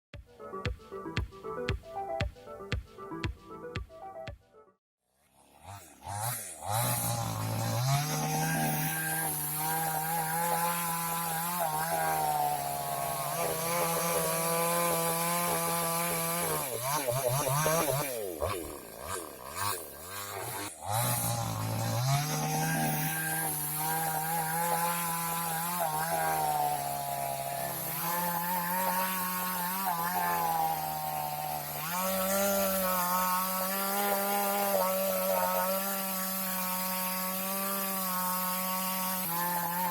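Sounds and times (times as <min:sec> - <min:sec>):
chainsaw cutting wood: 0:05.1 - 0:39.9.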